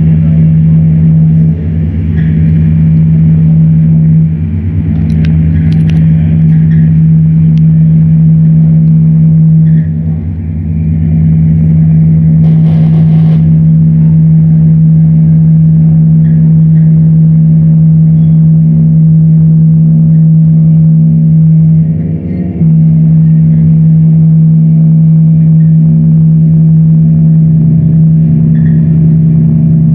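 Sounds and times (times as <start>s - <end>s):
electronic drone: 0.0s - 29.9s.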